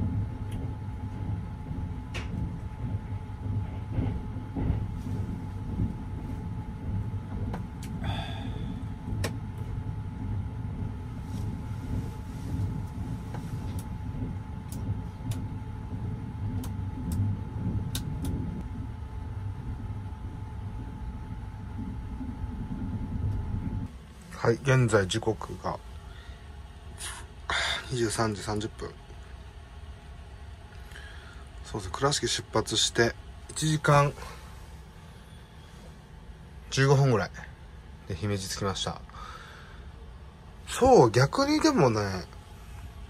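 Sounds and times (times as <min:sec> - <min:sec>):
faint steady hum: 0:00.0 - 0:43.0
train running low rumble: 0:00.0 - 0:43.0.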